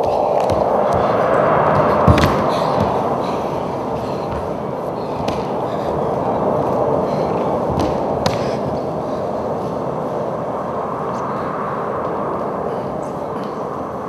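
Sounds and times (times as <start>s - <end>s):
rushing rumbling noise: 0.0s - 14.0s.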